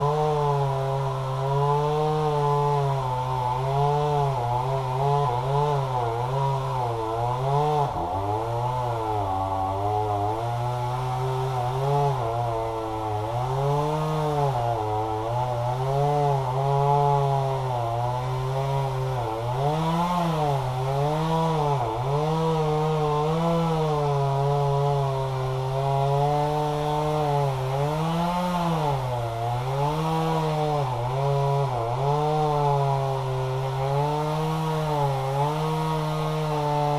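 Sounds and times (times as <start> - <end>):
chainsaw cutting wood: 0.0 - 36.9.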